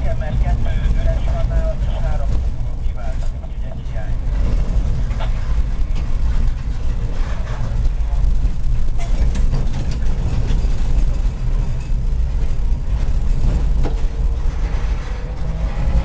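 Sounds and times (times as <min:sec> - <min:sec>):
tram rumbling: 0:00.0 - 0:16.0
sharp clicks and rattles: 0:00.1 - 0:16.0.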